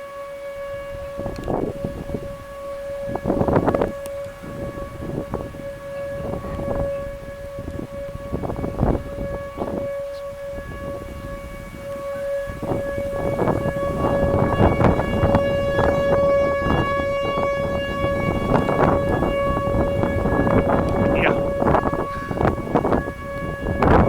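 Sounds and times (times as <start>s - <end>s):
tornado siren steady tone: 0.0s - 24.0s
rough gusts of noise: 0.9s - 24.0s.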